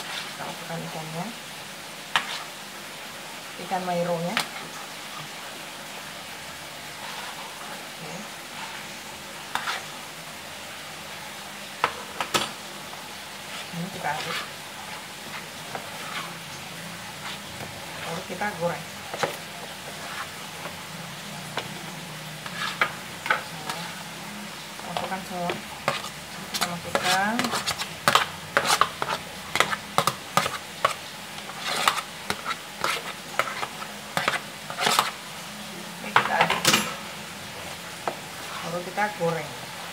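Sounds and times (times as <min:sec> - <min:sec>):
wet batter sounds: 0:00.0 - 0:39.9.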